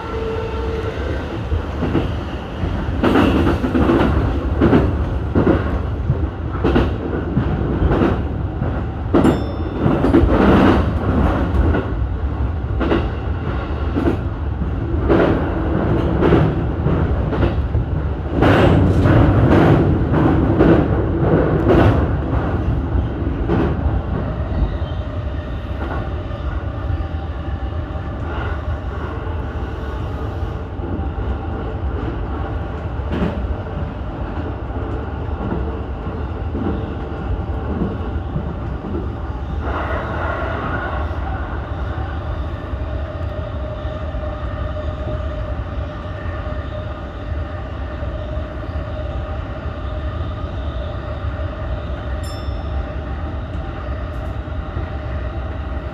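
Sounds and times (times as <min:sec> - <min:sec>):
train rumbling: 0:00.0 - 0:55.9.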